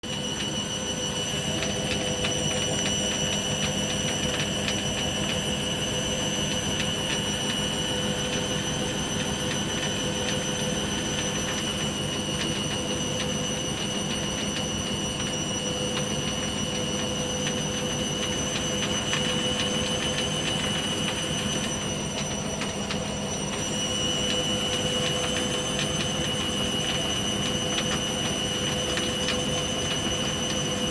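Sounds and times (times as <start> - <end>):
washing machine spin whine: 0.0 - 30.9.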